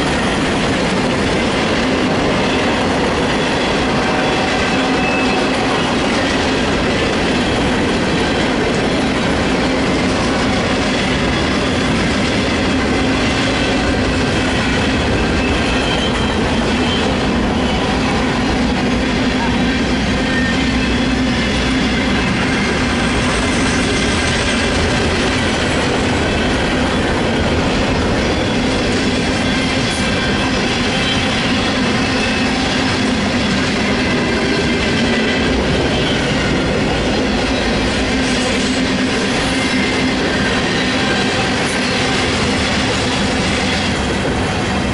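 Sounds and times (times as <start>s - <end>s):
freight train wheels rumbling on rail: 0.0s - 44.9s.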